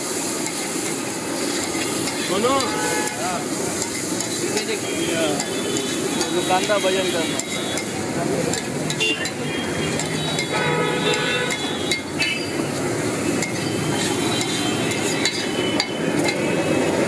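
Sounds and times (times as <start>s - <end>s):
metal spatula clanking on griddle: 0.4s - 12.6s, 13.4s - 16.5s.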